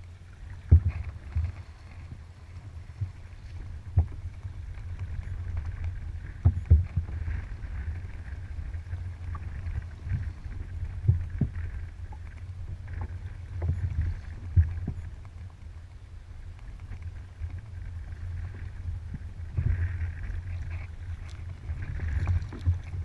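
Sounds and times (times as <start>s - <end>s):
steady low rumble: 0.0s - 23.0s
water sloshing around hull: 0.0s - 23.0s.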